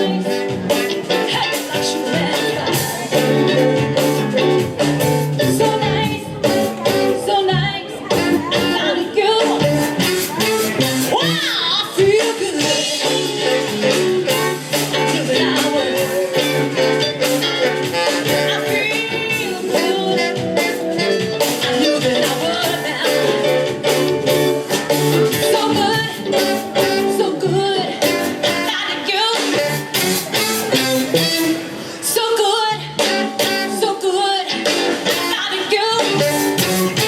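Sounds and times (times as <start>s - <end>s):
guitar: 0.0s - 37.0s
person singing: 0.0s - 37.0s
soul band playing: 0.0s - 37.0s.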